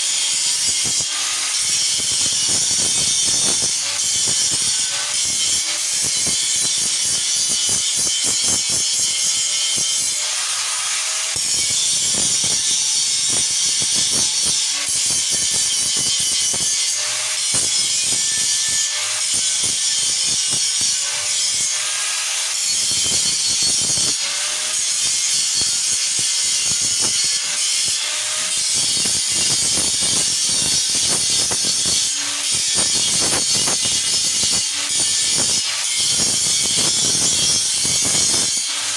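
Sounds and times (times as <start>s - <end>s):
electric grinder grinding steel: 0.0s - 38.9s.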